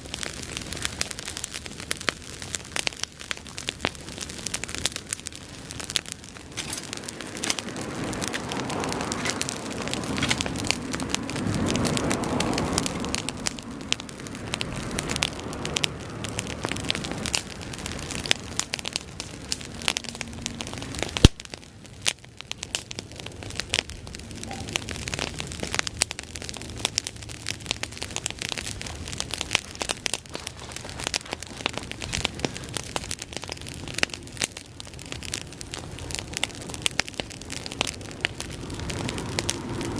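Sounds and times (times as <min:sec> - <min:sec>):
bonfire crackling and popping: 0:00.0 - 0:39.9
flames rushing: 0:00.0 - 0:39.9
sharp fire crack: 0:00.0 - 0:39.9.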